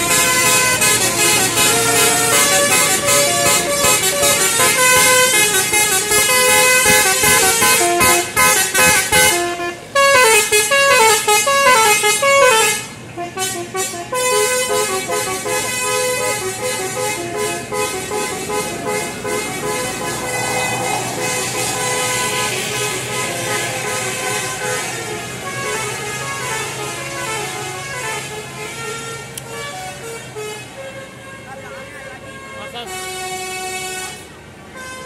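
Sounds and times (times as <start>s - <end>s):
bus multi-tone horn playing tune: 0.0s - 35.0s.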